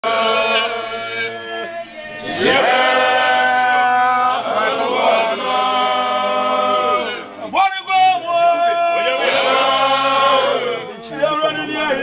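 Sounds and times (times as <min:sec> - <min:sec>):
men singing together: 0:00.0 - 0:07.4, 0:08.4 - 0:11.9.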